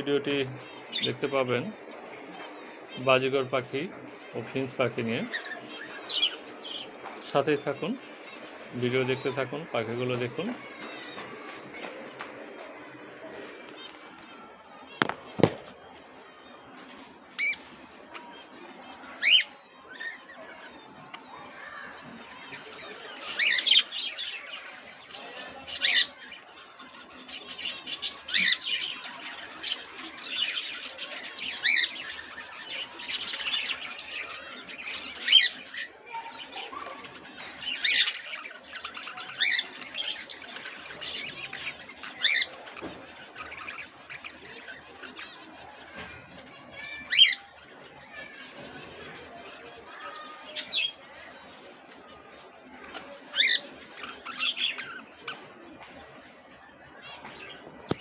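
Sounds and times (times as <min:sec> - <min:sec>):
chatter of small birds: 0:00.0 - 0:58.0.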